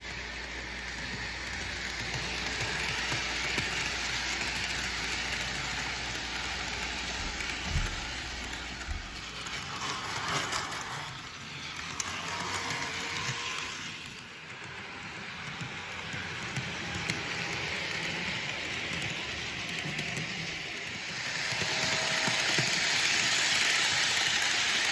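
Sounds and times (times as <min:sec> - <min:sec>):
model train running on track: 0:00.0 - 0:24.9.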